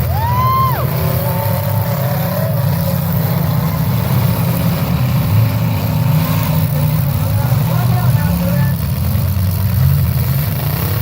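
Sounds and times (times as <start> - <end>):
car engines rumbling: 0.0 - 11.0.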